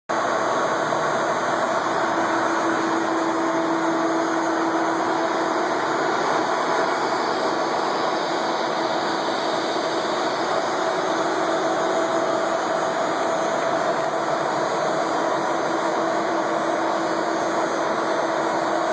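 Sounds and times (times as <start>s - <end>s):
lathe machine hum: 0.1s - 18.9s
whining gear tones: 0.2s - 18.9s.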